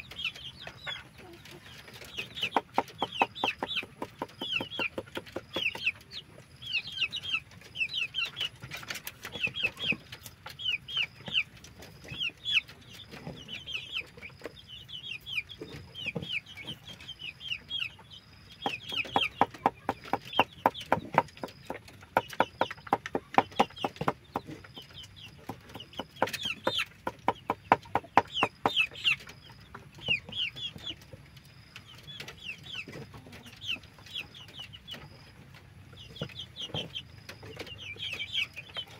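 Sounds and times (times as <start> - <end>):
chickens calling: 0.0 - 38.9.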